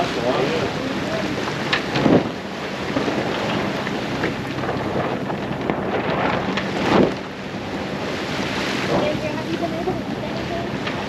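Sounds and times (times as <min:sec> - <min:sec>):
water rushing along hull: 0:00.0 - 0:11.0
water swooshes: 0:00.0 - 0:11.0
wind buffeting microphone: 0:00.0 - 0:11.0.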